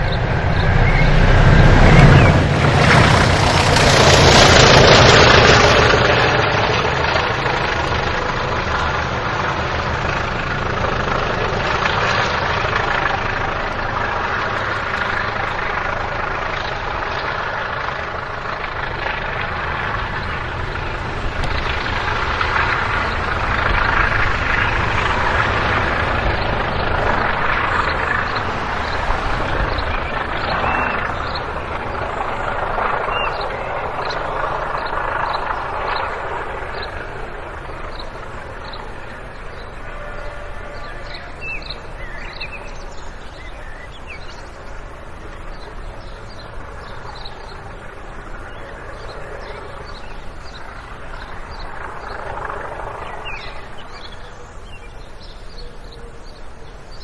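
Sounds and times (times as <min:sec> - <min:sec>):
diesel locomotive engines running: 0:00.0 - 0:57.0
rush of noise: 0:00.0 - 0:57.0.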